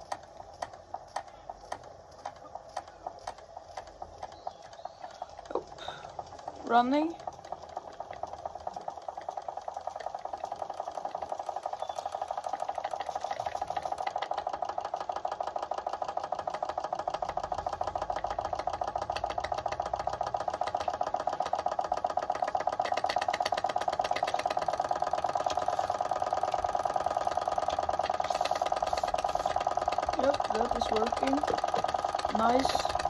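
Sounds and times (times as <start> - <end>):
steam engine running fast: 0.0 - 33.0.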